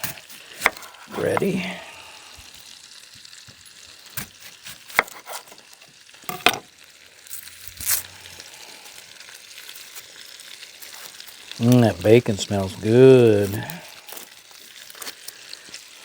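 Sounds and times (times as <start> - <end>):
bacon sizzling in a pan: 0.0 - 16.0.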